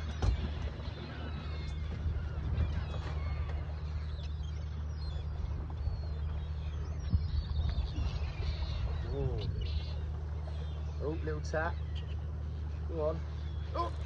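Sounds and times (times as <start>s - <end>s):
boat engine hum: 0.0s - 14.0s
seagulls calling: 0.0s - 14.0s.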